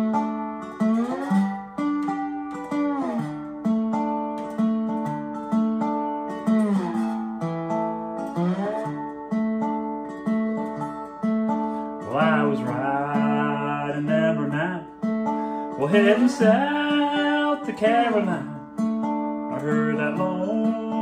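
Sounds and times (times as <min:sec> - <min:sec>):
slide guitar chords: 0:00.0 - 0:21.0.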